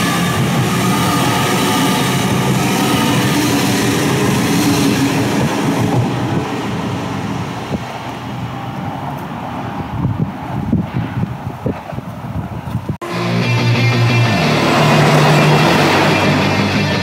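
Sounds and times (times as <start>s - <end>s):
train passing with rail noise: 0.0s - 17.0s.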